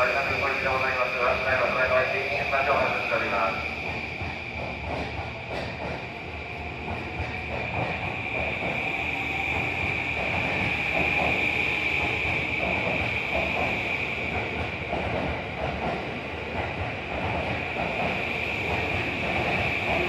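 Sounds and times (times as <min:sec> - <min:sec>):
low train rumble: 0:00.0 - 0:20.0
train high whine: 0:00.0 - 0:20.0.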